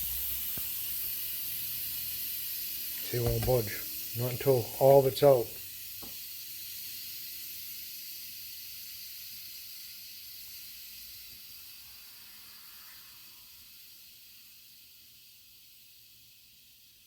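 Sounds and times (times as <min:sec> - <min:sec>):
pressure cooker venting steam: 0:00.0 - 0:17.0.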